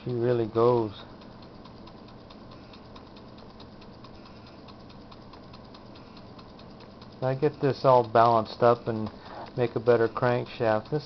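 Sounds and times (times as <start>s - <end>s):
small engine rapid ticking: 0.0s - 11.0s.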